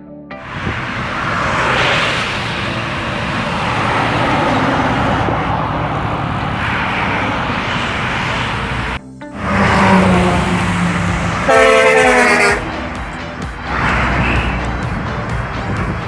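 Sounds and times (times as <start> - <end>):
diesel truck engine under load: 0.4 - 16.0.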